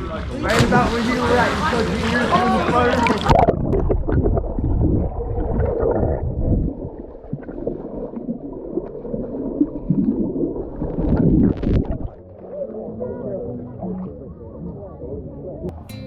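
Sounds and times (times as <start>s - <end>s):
muffled underwater bubbling: 0.6s - 15.7s.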